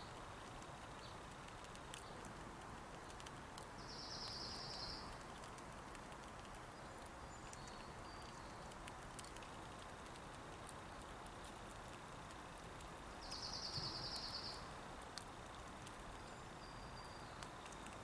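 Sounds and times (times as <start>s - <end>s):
faint clicks: 0.1s - 16.4s, 17.0s - 18.0s.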